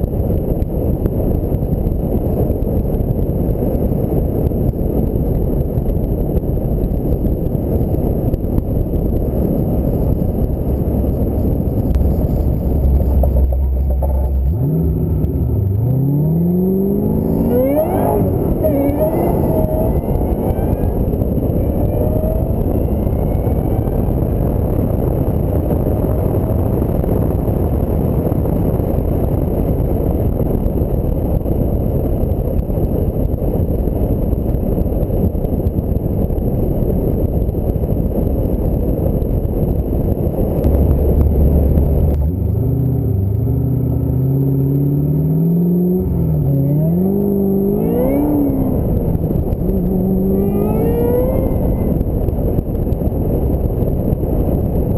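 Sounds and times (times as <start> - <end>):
road noise: 0.0 - 54.9
wind rushing over microphone: 0.0 - 54.9
car engine accelerating: 0.1 - 34.1, 38.5 - 54.9.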